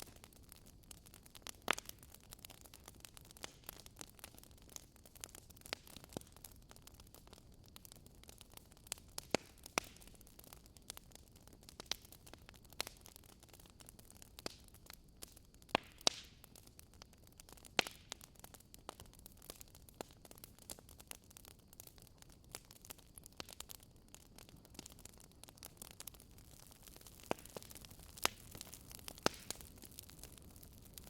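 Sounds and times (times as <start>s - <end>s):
fireplace fire crackling: 0.0s - 31.0s.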